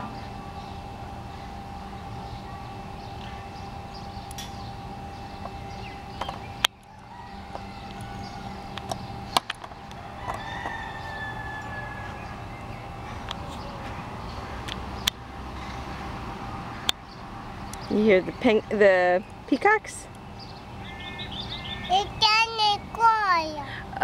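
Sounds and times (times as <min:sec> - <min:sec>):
bird calling: 0:00.0 - 0:23.0.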